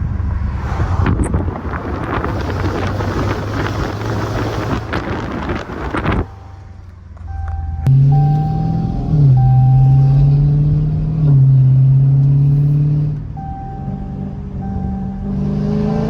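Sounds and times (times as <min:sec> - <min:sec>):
loud car engine accelerating: 0:00.0 - 0:16.0.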